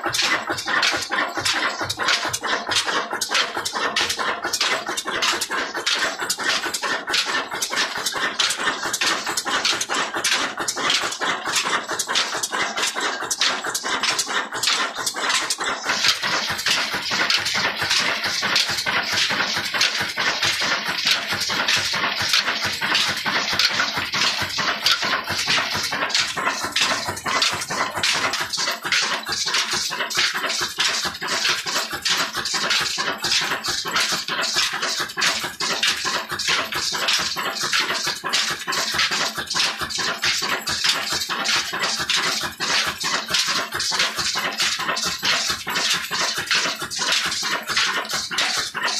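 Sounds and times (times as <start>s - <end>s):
stationary engine clattering: 0.0s - 48.9s.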